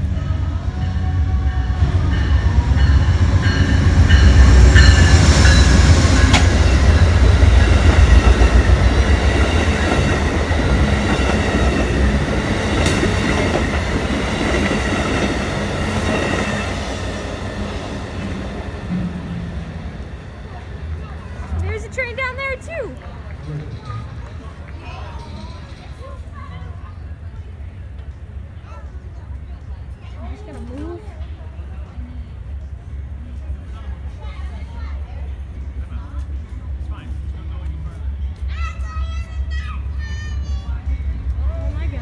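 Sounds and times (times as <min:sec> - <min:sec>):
passenger train passing: 0:00.0 - 0:42.0.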